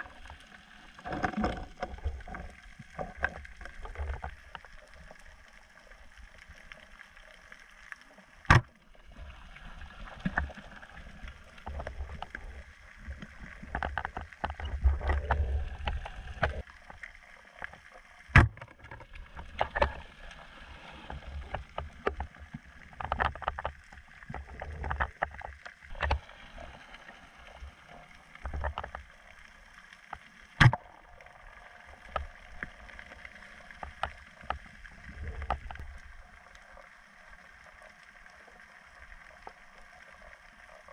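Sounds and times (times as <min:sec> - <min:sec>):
underwater crackling: 0:00.0 - 0:40.9
water rushing underwater: 0:00.0 - 0:40.9.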